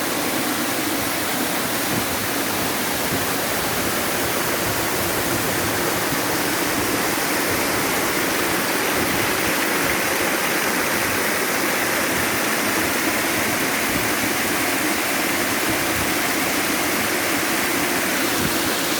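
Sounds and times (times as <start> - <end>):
waterfall pouring and splashing: 0.0 - 18.9.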